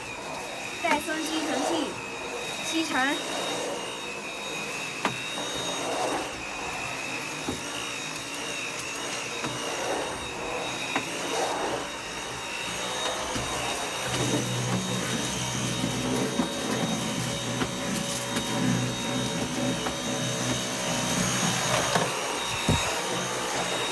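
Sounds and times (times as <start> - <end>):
vacuum cleaner high-pitched whine: 0.0 - 23.9.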